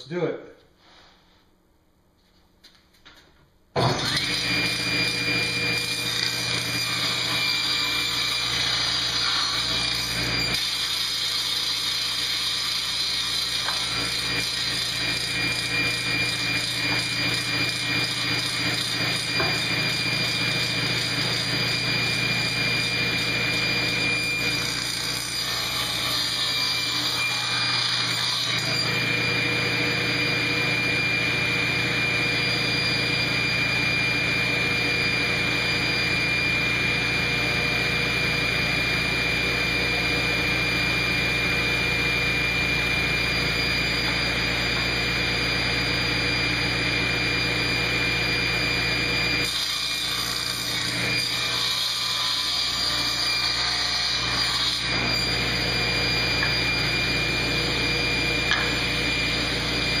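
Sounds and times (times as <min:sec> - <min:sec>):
table saw running: 0:03.8 - 1:00.0.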